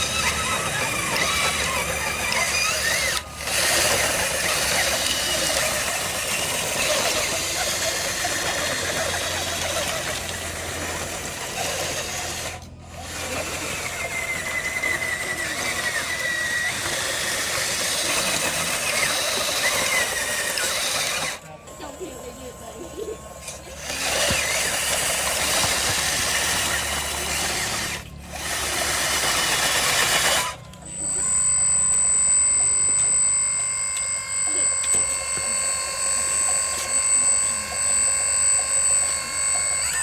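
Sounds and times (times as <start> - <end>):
small electric motors whining: 0.0 - 40.0.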